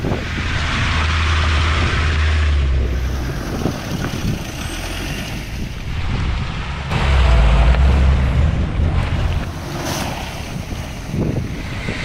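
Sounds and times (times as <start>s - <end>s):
engine running: 0.0s - 12.0s
wind noise on microphone: 0.0s - 12.0s.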